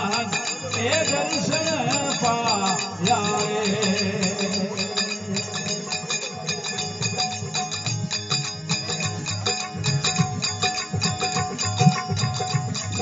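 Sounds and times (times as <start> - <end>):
jingling hand percussion: 0.0 - 13.0.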